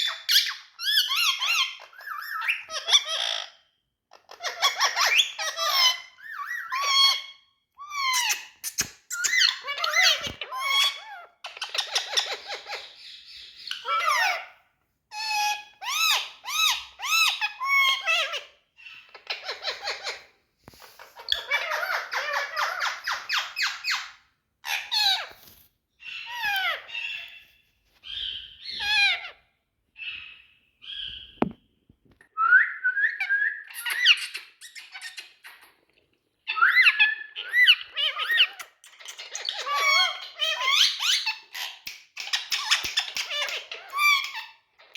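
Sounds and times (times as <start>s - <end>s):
parakeet squawking and chattering: 0.0s - 14.5s, 15.1s - 25.3s, 26.0s - 27.4s, 28.0s - 29.4s, 33.7s - 35.8s, 36.4s - 44.9s.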